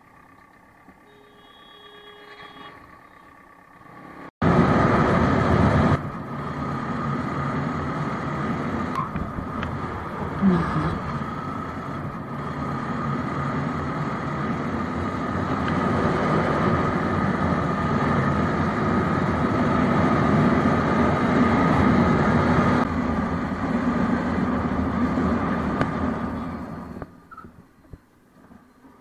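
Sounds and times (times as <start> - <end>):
motorcycle engine cruising: 0.0 - 29.0
road and wind noise: 2.2 - 29.0.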